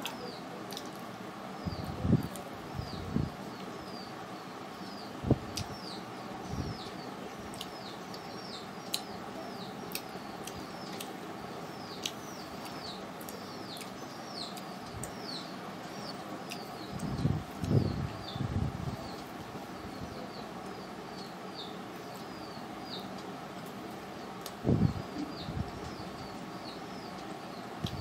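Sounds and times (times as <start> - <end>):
small birds chirping: 0.0 - 28.0
steady background noise: 0.0 - 28.0.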